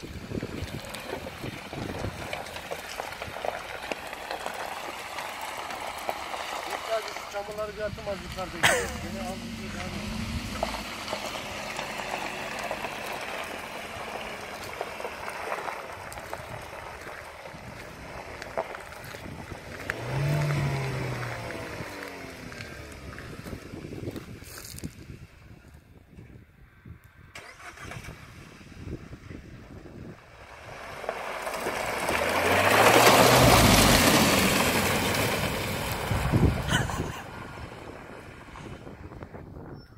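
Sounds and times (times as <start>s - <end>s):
car engine hum: 0.0s - 25.9s, 27.4s - 39.7s
tyres crackling on gravel: 0.0s - 26.2s, 29.7s - 39.7s.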